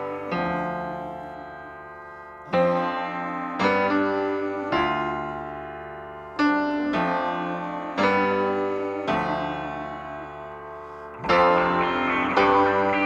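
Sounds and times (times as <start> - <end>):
piano chords ringing: 0.0 - 13.0.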